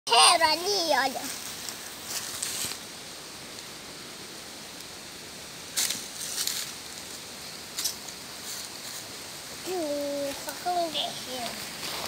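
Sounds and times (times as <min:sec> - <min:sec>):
leaves rustling: 0:00.1 - 0:12.0
steady hiss: 0:00.1 - 0:12.0.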